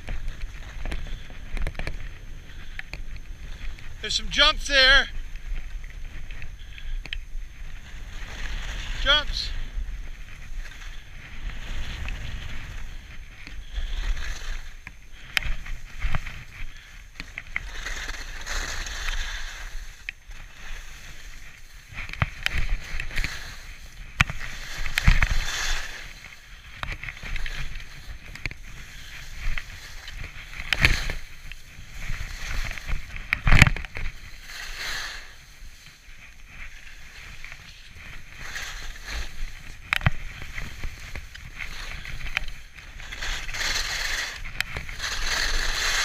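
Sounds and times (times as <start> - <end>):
skis swishing through snow: 0.0 - 46.0
wind rumble on microphone: 0.0 - 46.0.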